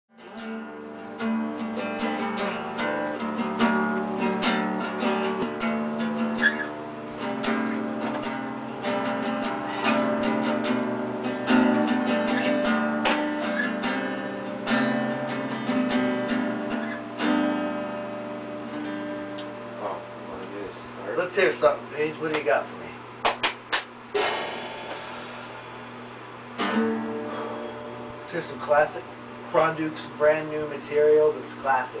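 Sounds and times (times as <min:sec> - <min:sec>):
guitar strummed and picked: 0:00.1 - 0:20.5, 0:24.1 - 0:31.4.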